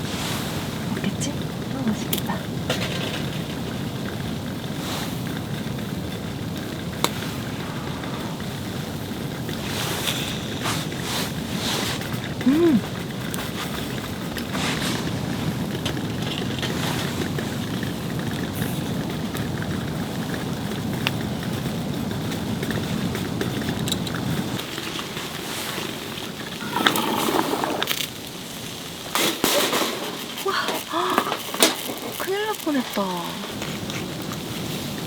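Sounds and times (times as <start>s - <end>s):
snowstorm wind rushing: 0.0s - 29.3s
small pops and crackles: 0.2s - 35.0s.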